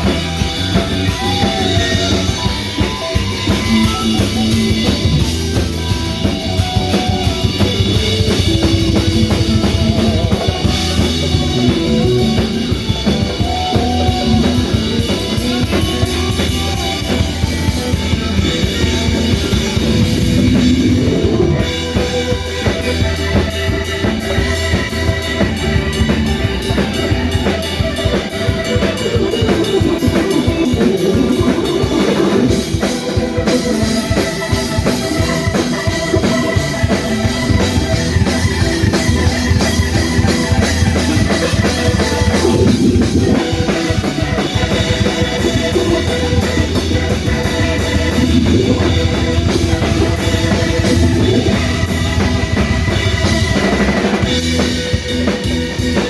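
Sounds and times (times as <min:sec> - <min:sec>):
bass guitar: 0:00.0 - 0:56.0
drum kit beat: 0:00.0 - 0:56.0
lead guitar line: 0:00.0 - 0:56.0.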